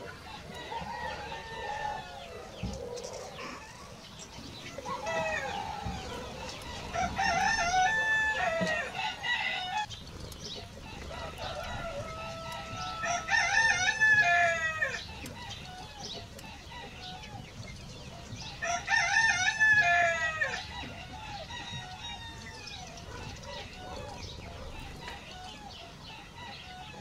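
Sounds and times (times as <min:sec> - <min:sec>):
roosters crowing: 0:00.0 - 0:27.0.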